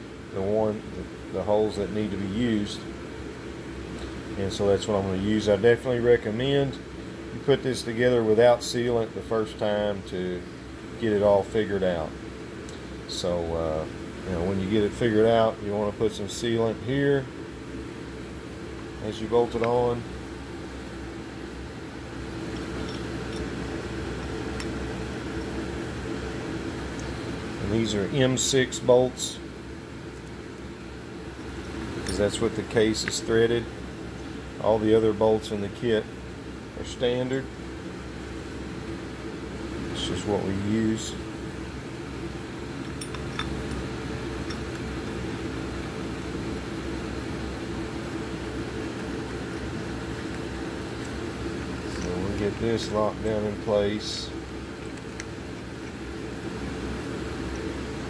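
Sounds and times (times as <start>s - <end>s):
ventilation machinery hum: 0.0s - 58.0s.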